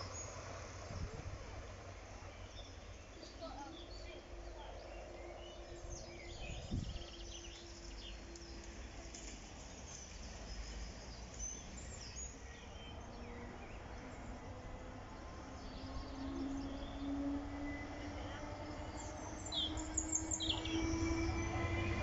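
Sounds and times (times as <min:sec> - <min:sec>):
low outdoor rumble: 0:00.0 - 0:22.0
small birds chirping: 0:01.9 - 0:21.9.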